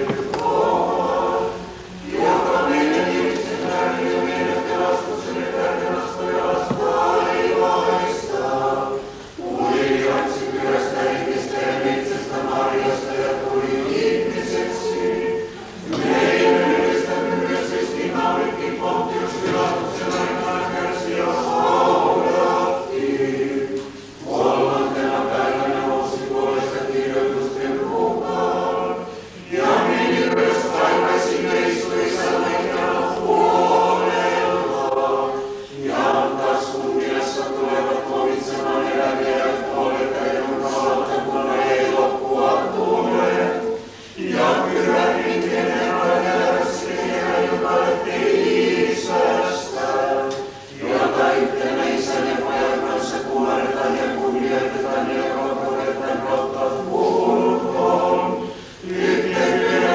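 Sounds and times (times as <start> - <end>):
choir chanting unaccompanied: 0.0 - 59.9.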